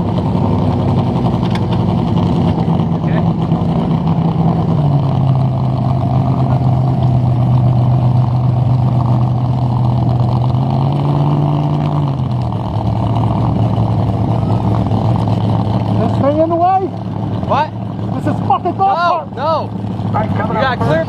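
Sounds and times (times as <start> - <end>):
large engine idling: 0.0 - 21.0.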